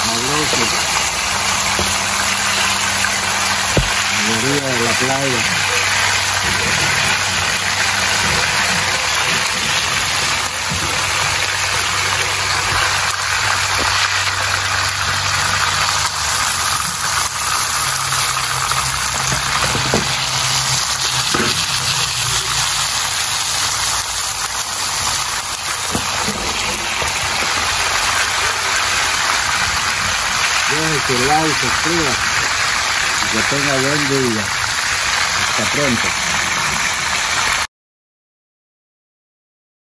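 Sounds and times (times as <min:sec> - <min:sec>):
fish sizzling in hot oil: 0:00.0 - 0:37.7.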